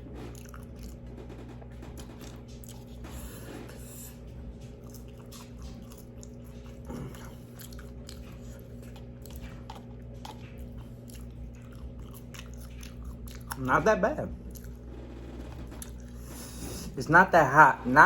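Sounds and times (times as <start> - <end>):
chewing and crunching food: 0.0 - 15.0, 15.6 - 17.0
low electrical hum: 0.0 - 18.0.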